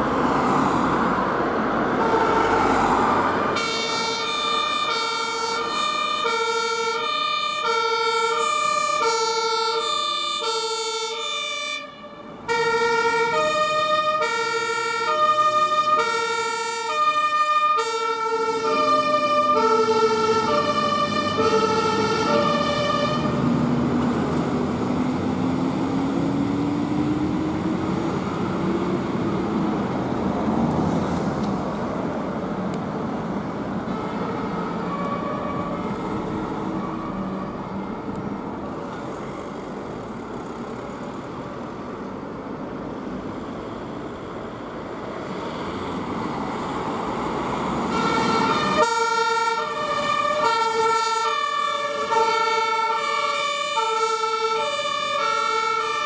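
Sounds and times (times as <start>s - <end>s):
diesel truck engines: 0.0s - 56.0s
road traffic: 0.0s - 56.0s
two-tone fire engine sirens: 0.0s - 56.0s.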